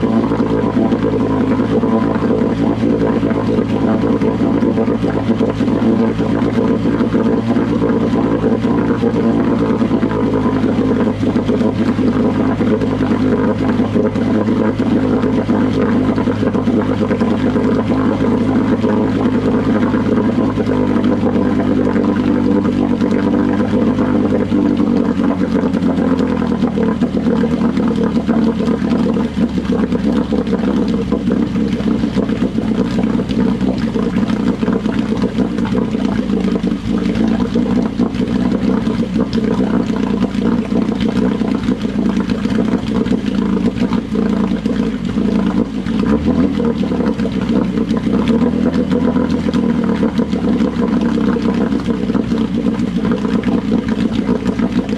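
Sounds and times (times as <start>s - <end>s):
outboard motor running: 0.0s - 54.9s
water churning and splashing: 0.0s - 54.9s.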